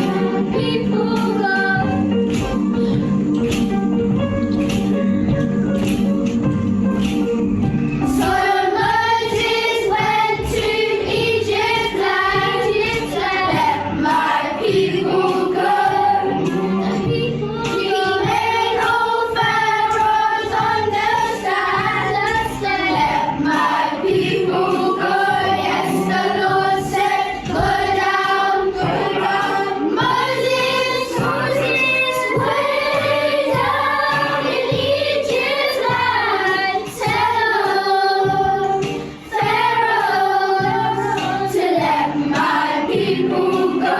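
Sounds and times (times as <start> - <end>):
children singing: 0.0 - 2.2, 8.1 - 43.9
musical accompaniment with beat: 0.0 - 43.9.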